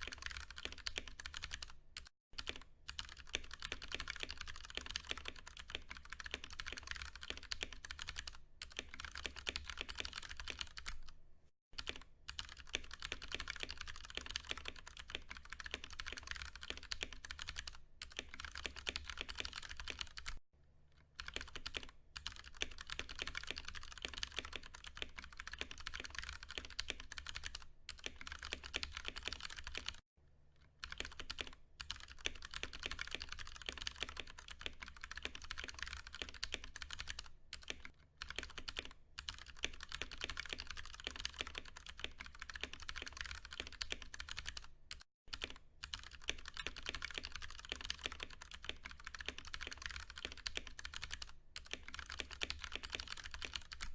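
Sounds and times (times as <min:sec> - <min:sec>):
mechanical keyboard typing: 0:00.0 - 0:11.2, 0:11.8 - 0:20.4, 0:21.2 - 0:30.0, 0:30.8 - 0:53.9.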